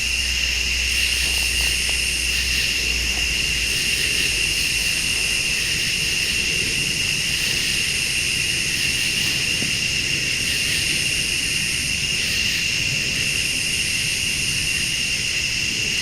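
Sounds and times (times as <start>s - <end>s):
crickets and insects trilling: 0.0s - 16.0s.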